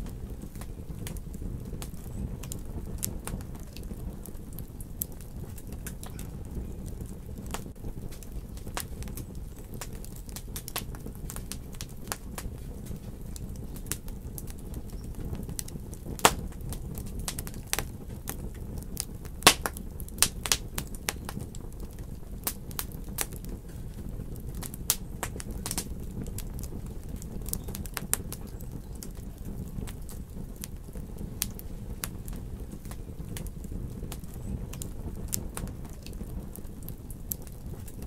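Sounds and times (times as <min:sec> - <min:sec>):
sharp fire pops: 0:00.0 - 0:38.0
steady low rumble: 0:00.0 - 0:38.0
wood fire crackling: 0:00.0 - 0:38.0.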